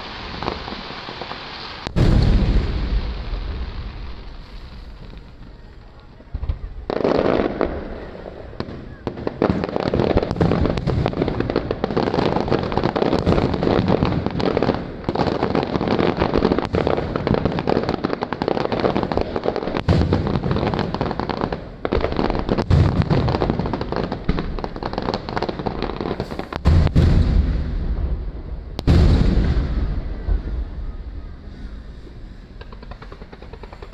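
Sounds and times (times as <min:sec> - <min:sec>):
deep heavy firework booms: 0:00.0 - 0:33.9
fireworks crackling and banging: 0:00.0 - 0:33.9.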